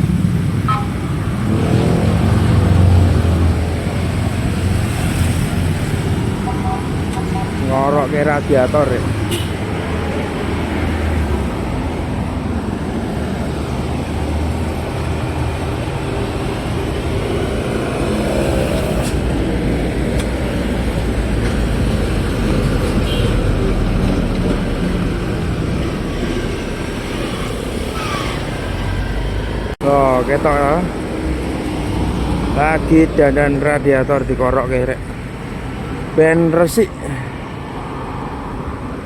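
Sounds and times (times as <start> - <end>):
vehicle engine rumble: 0.0 - 36.2
road traffic noise: 0.0 - 39.0.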